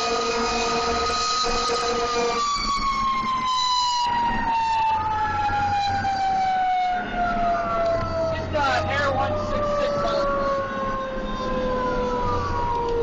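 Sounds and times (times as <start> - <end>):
fire truck siren falling: 0.0 - 13.0
steady lower siren tone: 0.0 - 13.0.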